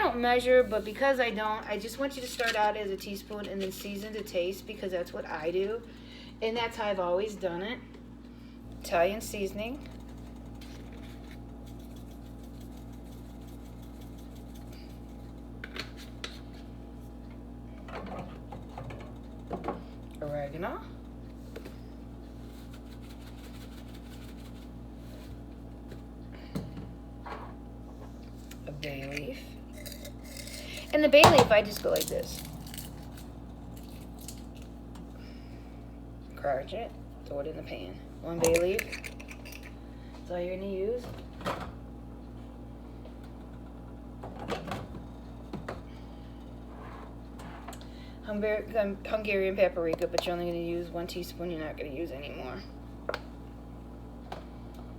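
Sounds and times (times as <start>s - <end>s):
low mechanical hum: 0.0s - 54.9s.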